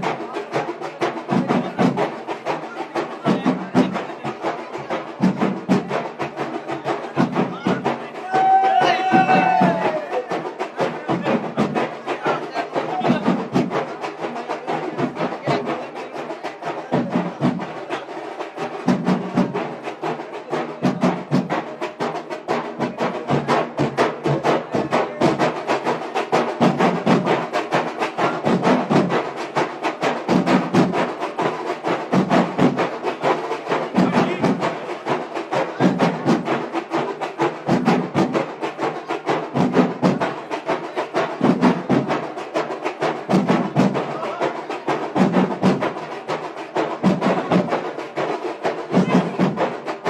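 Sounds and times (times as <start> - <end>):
fast sharp drum strokes: 0.0 - 50.0
heavy low drum beats: 0.0 - 50.0.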